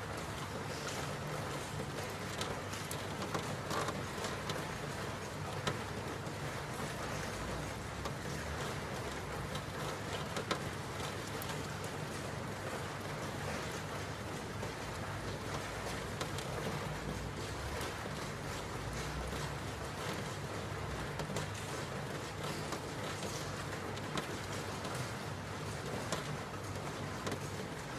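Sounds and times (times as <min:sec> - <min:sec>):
raindrops ticking: 0:00.0 - 0:27.9
steady rain falling: 0:00.0 - 0:27.9.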